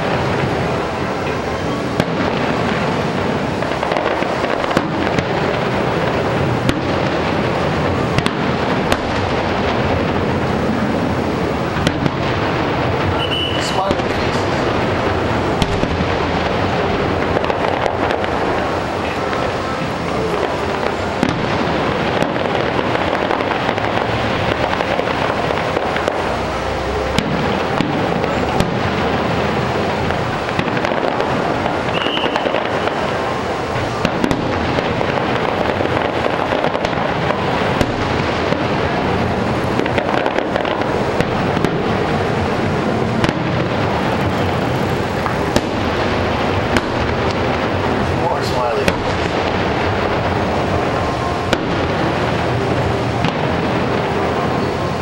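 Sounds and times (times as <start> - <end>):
fireworks booming and crackling: 0.0 - 55.0
sharp firework cracks: 0.0 - 55.0.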